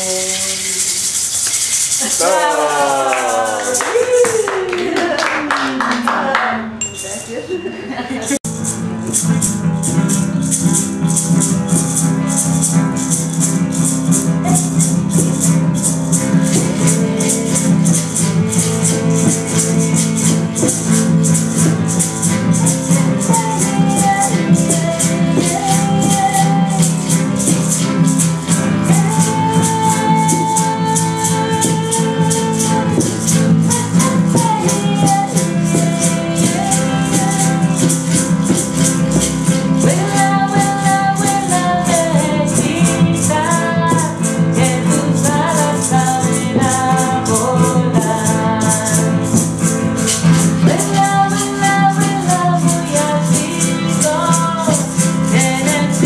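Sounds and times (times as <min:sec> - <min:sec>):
acoustic guitar: 0:00.0 - 0:56.0
shaker rhythm: 0:00.0 - 0:56.0.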